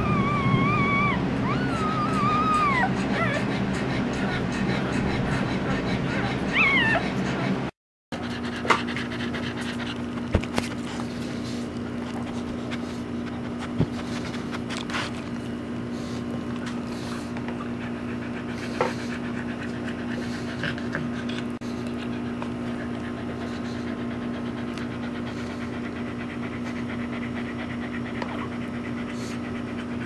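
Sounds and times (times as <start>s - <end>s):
constant low hum: 0.0s - 30.0s
dog panting: 0.3s - 30.0s.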